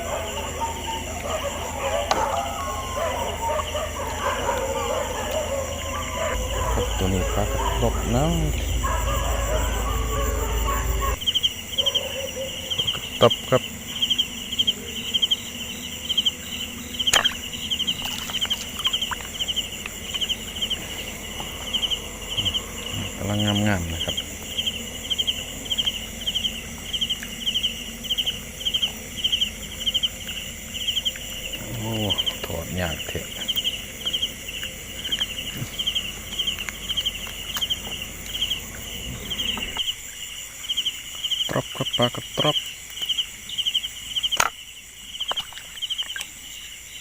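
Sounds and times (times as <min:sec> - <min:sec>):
insects chirping: 0:00.0 - 0:47.0.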